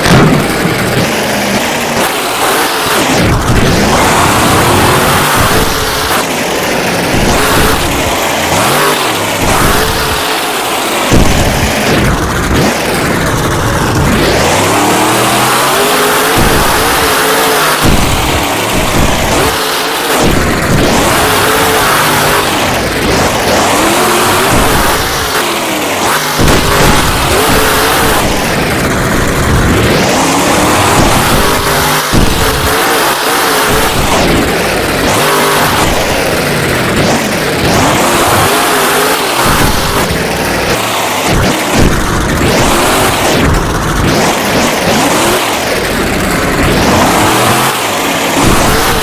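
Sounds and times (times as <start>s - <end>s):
truck engine revving hard: 0.0s - 49.0s.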